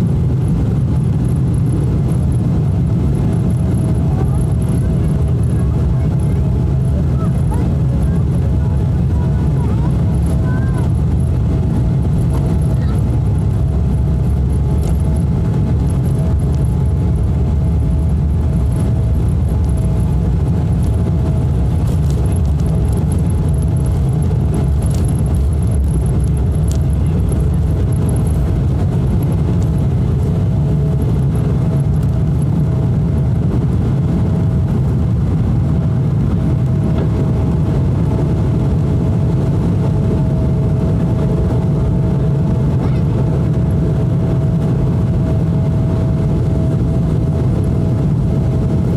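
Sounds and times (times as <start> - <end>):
jet engine drone in cabin: 0.0 - 48.9.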